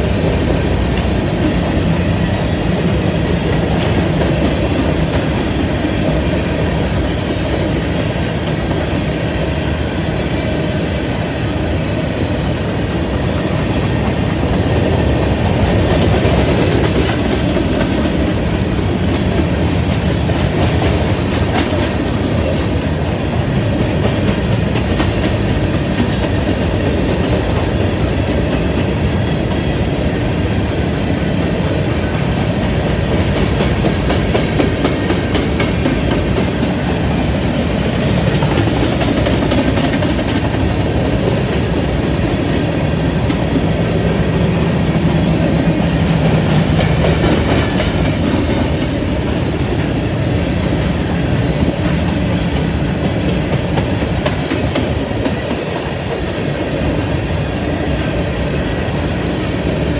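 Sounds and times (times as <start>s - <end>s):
clickety-clack over rail joints: 0.0s - 59.9s
freight train wheels on rail: 0.0s - 59.9s.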